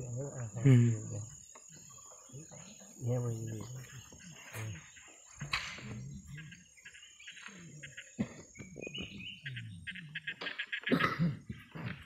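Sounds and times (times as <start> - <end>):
low murmuring voices: 0.0 - 10.0
high insect drone: 0.0 - 12.0
insects chirping in trills: 0.0 - 12.0.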